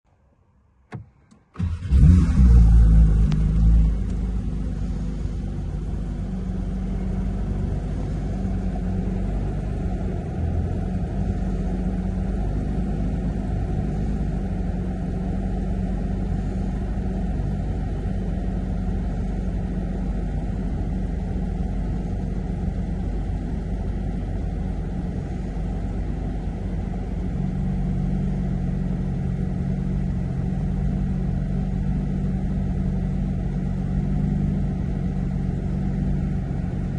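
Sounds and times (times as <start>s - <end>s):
car engine idling: 0.2s - 36.9s.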